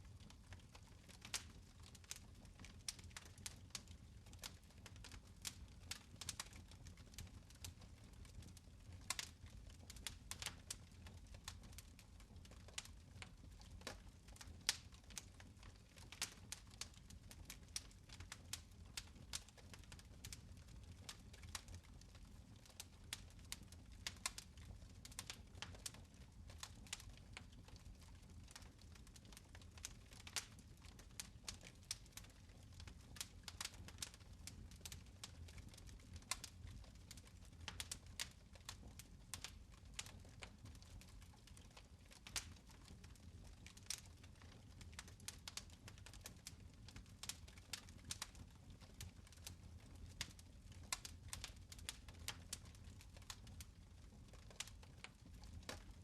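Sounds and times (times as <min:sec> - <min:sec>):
fire crackling: 0:00.1 - 0:56.0.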